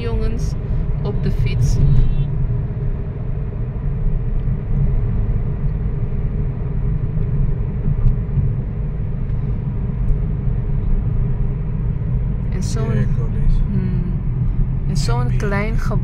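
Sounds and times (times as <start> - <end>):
car engine noise: 0.0 - 16.0
tyre road noise: 0.0 - 16.0.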